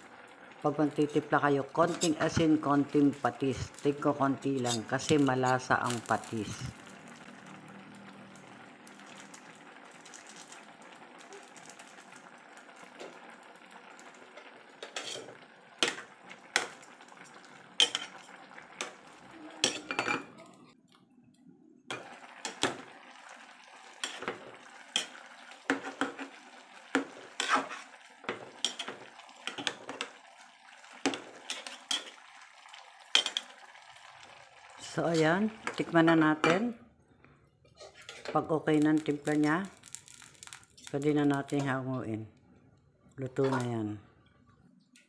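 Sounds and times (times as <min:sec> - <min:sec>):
pot simmering: 0:00.0 - 0:45.0.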